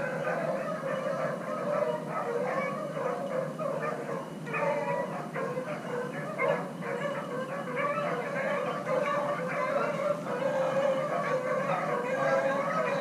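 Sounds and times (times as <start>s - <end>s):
pack of hounds baying: 0.0s - 13.0s.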